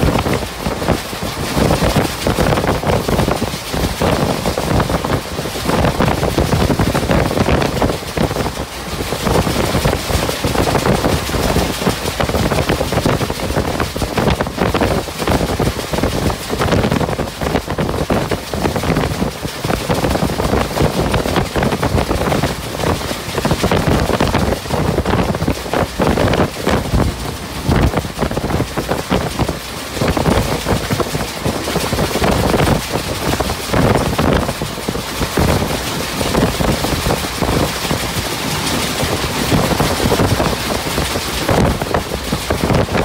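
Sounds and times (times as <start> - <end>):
moving train rushing: 0.0 - 43.0.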